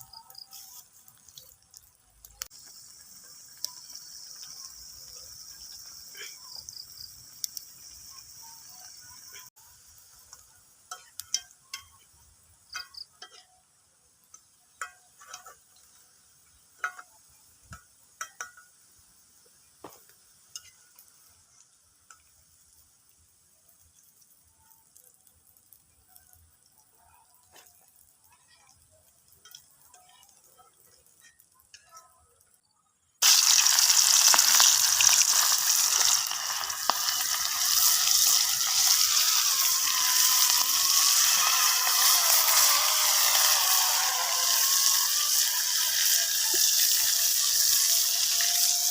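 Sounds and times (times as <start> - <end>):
food sizzling in hot oil: 0.0 - 48.9.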